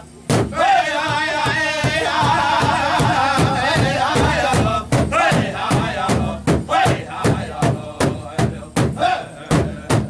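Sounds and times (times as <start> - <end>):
drum group singing: 0.0 - 10.0
big drum beats: 0.2 - 10.0.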